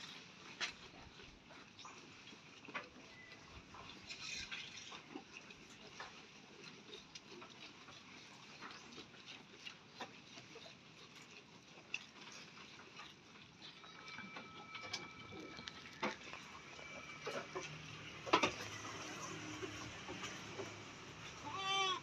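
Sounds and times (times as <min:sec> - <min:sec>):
goats chewing clicks: 0:00.0 - 0:22.0.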